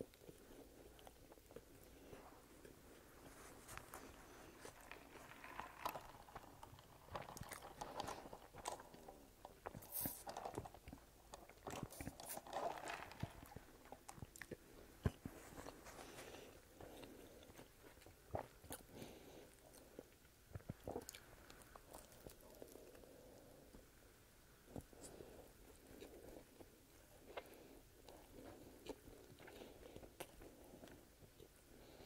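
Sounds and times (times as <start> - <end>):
slow wet chewing: 0.0 - 32.0.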